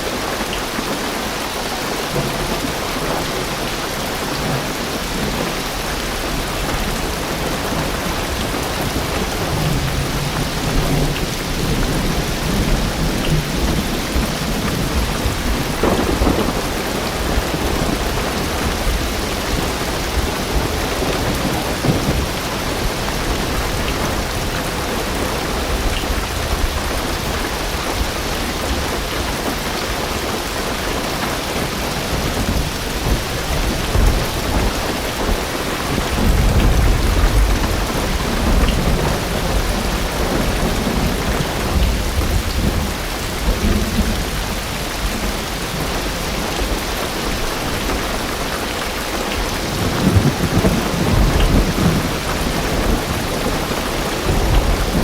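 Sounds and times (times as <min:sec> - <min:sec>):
heavy rain on a car roof: 0:00.0 - 0:55.0
distant thunder rumble: 0:02.1 - 0:48.6, 0:49.2 - 0:55.0.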